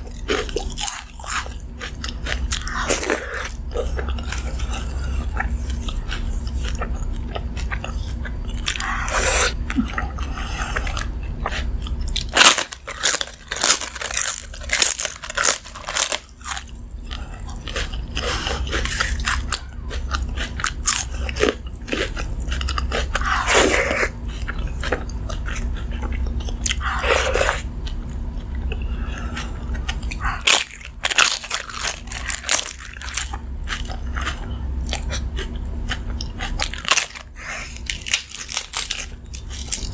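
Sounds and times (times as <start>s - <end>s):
crunchy food crunching: 0.0s - 39.9s
low steady hum: 0.0s - 39.9s
soft chewing: 0.0s - 39.9s.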